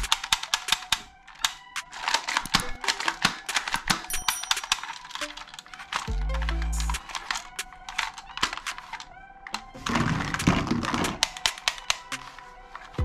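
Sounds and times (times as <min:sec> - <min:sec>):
plastic toy pistol clicks: 0:00.0 - 0:12.9.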